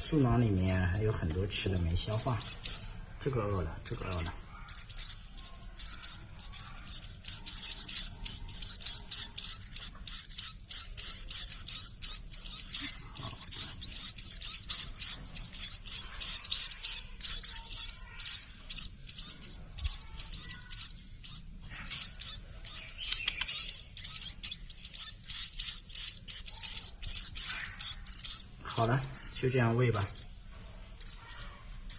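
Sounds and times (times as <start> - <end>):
chicks giving high begging chirps: 0.0 - 31.9.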